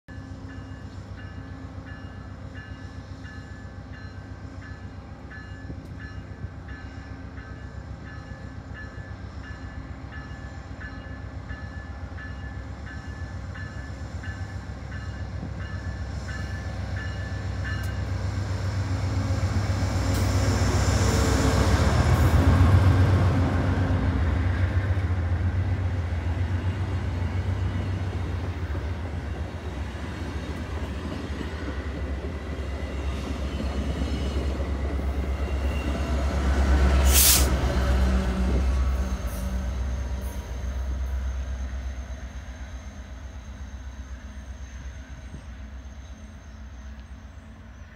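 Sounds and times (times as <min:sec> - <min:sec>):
diesel locomotive running: 0:00.1 - 0:47.9.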